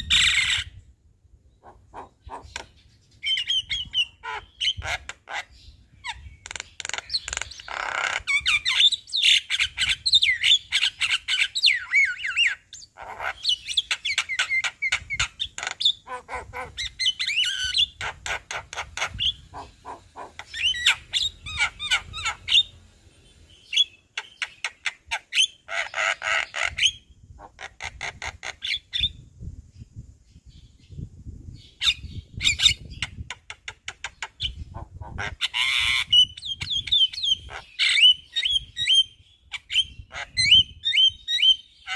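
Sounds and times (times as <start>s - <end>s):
myna bird singing: 0.0s - 41.9s.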